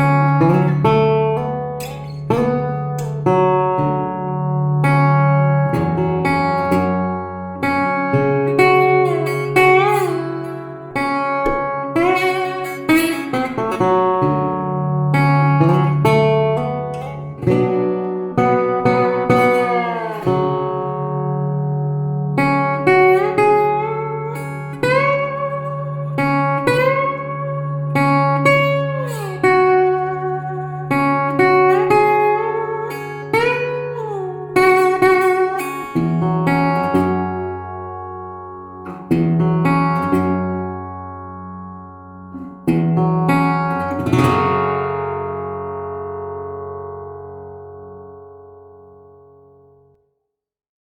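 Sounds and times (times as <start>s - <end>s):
resonator guitar plucked notes: 0.0s - 50.0s.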